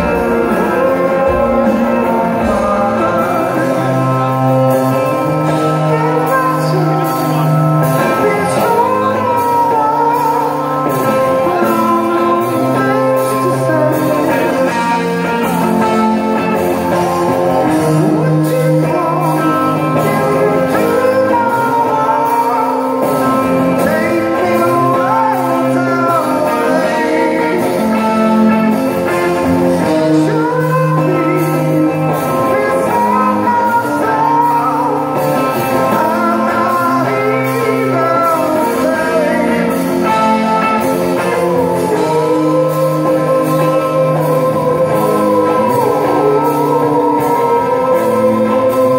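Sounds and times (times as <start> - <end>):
live rock band playing: 0.0 - 48.9
man singing: 0.0 - 48.9.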